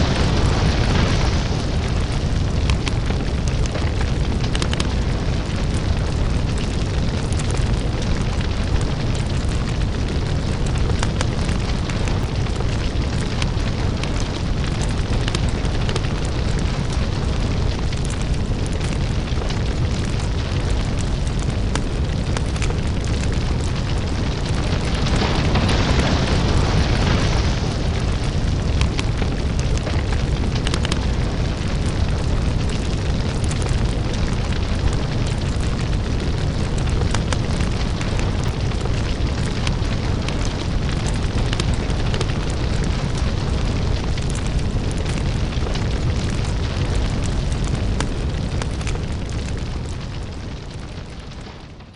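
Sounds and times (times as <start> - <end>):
deep rumble of lava: 0.0 - 51.9
fire crackling and popping: 0.0 - 51.9.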